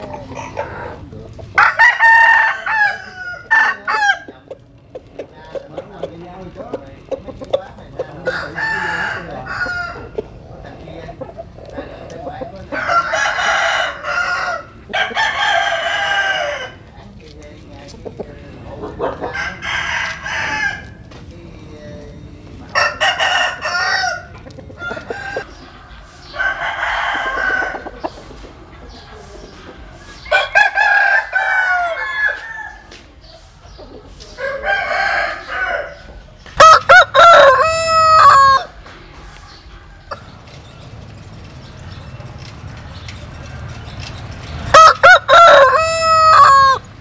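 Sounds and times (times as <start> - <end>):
roosters crowing: 0.0 - 47.0.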